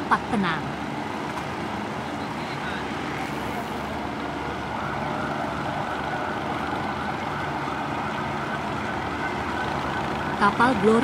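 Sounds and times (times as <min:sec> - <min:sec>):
ship engines droning: 0:00.0 - 0:11.0.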